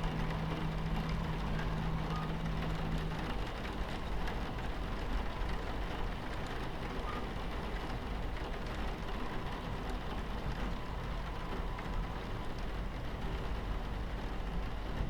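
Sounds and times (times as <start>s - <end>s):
rain hissing on window: 0.0s - 15.0s
train rumbling on tracks: 0.0s - 15.0s.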